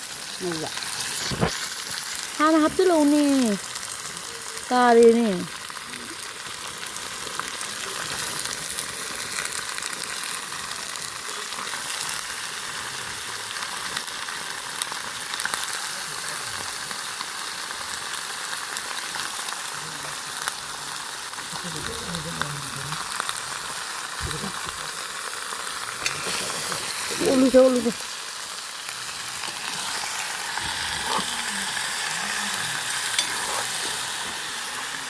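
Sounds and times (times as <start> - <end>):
food frying in hot oil: 0.0 - 35.0.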